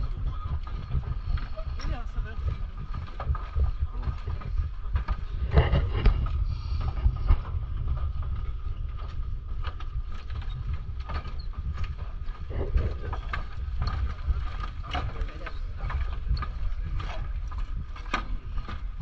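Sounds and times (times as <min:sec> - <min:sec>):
footsteps on wooden planks: 0:00.0 - 0:19.0
wind rumble on microphone: 0:00.0 - 0:19.0.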